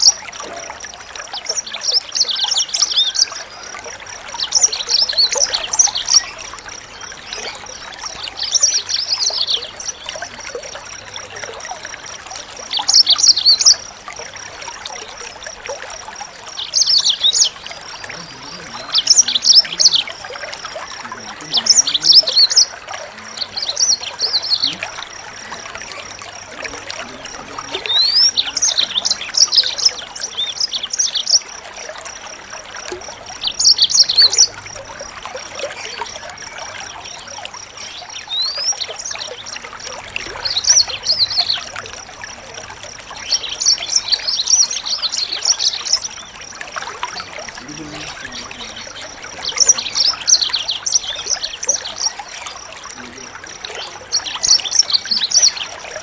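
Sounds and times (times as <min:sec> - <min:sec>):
songbird chirping and trilling: 0:00.0 - 0:56.0
trickling water: 0:00.0 - 0:56.0.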